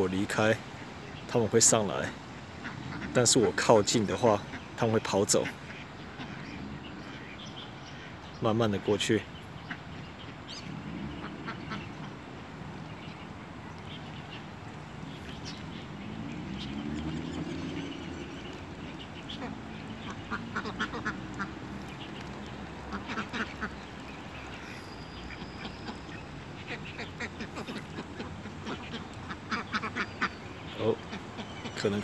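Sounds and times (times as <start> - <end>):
ducks quacking: 1.1 - 32.0.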